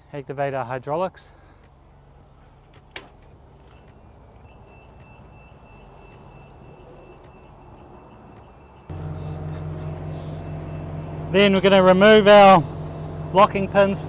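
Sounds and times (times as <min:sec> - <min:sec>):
diesel engine running: 0:01.2 - 0:14.0.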